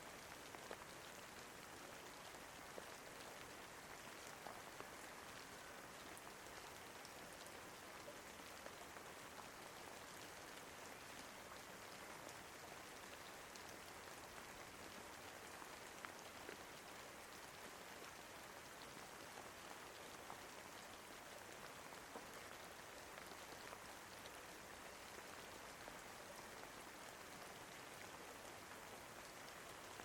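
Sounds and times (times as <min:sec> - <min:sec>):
faint steady rain: 0:00.0 - 0:30.0.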